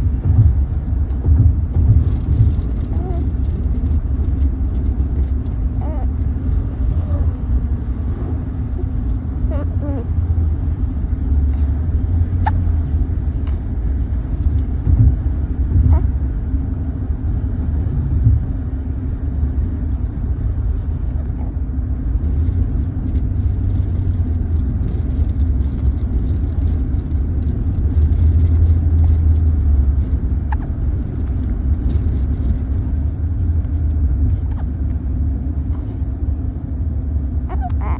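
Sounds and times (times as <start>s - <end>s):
constant hum: 0.0s - 37.9s
low rumble: 0.0s - 37.9s.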